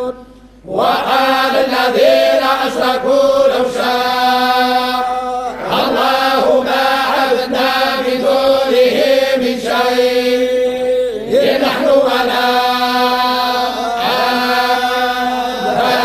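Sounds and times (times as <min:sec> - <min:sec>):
men reciting in unison: 0:00.0 - 0:16.0.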